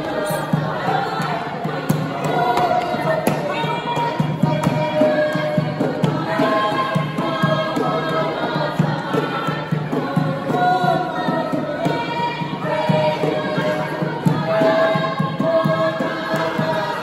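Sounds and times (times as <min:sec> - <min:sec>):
group singing in chorus: 0:00.0 - 0:17.0.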